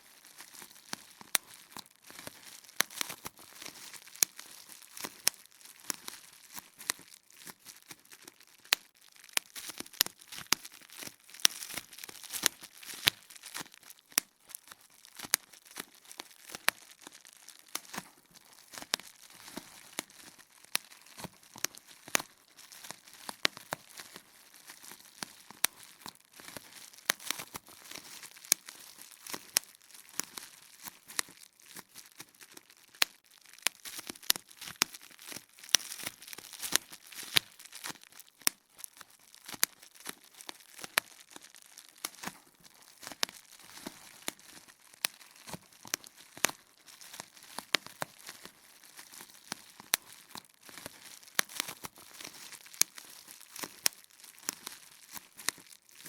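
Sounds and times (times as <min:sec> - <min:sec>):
bubble wrap popping: 0:00.0 - 0:56.0
plastic crinkling: 0:00.0 - 0:56.0.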